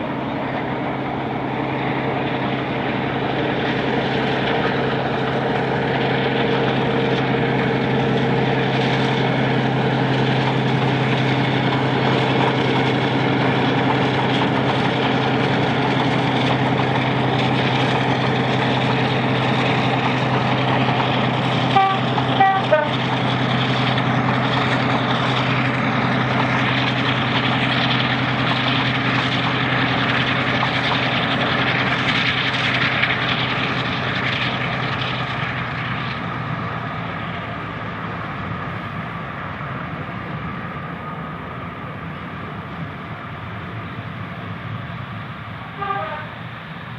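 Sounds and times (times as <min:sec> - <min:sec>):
diesel locomotive engine droning: 0:00.0 - 0:46.9.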